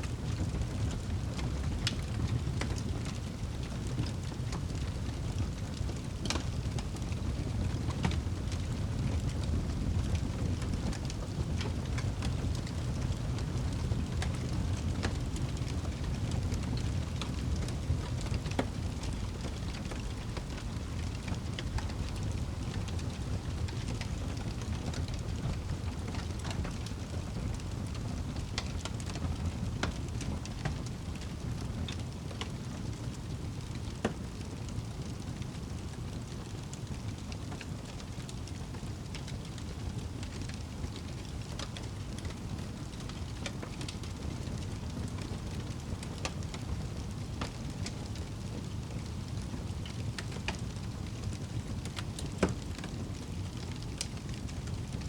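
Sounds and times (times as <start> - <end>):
fire crackles and pops: 0.0 - 55.0
low rumble of flames: 0.0 - 55.0.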